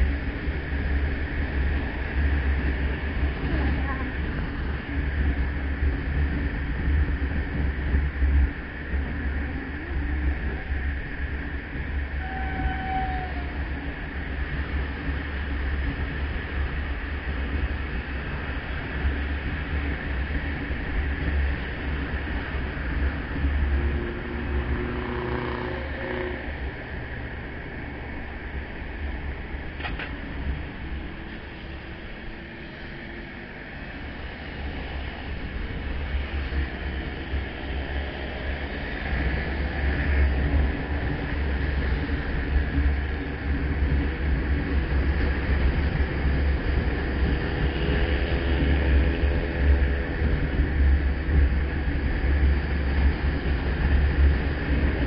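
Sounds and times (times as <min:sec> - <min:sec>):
motorcycle engine and road noise: 0:00.0 - 0:55.0
wind rumble on microphone: 0:00.0 - 0:55.0.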